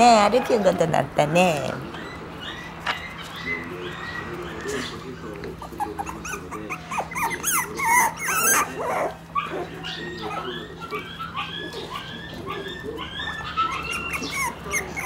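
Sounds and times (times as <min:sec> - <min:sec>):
puppies whining and yipping: 0:00.0 - 0:15.0.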